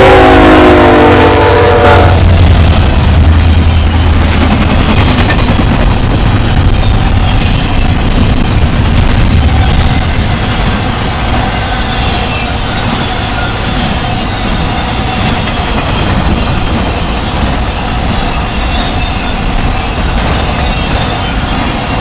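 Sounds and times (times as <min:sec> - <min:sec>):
train wheels running on rails: 0:00.0 - 0:22.0.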